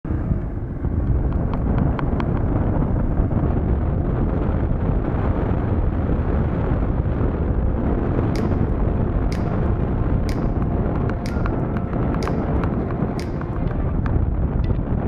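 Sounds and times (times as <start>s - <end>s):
wind buffeting microphone: 0.0s - 15.0s
motorcycle engine running: 0.1s - 15.0s.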